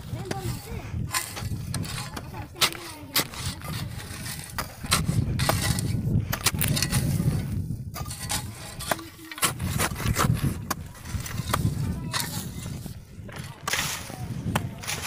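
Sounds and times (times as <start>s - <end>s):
metal blades striking stony soil: 0.2s - 15.0s.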